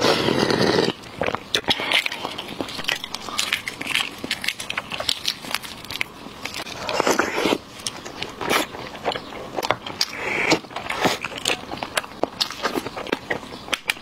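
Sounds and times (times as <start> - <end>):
chewing with sticky clicks: 1.0 - 6.8, 7.8 - 14.0.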